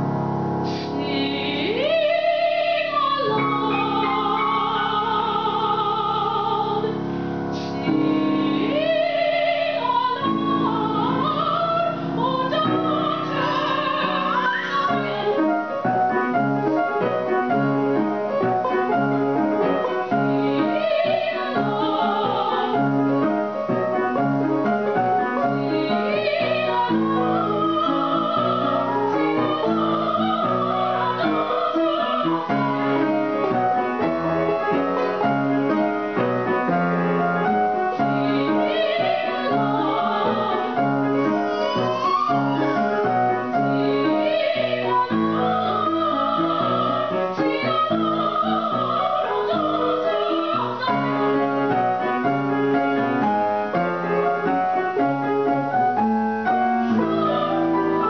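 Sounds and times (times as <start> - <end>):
grand piano accompaniment: 0.0 - 58.0
woman singing classical song: 0.6 - 58.0.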